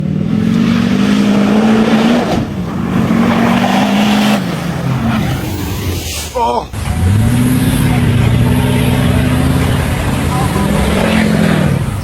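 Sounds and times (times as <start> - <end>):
loud engine revving: 0.0 - 6.0, 6.8 - 12.0.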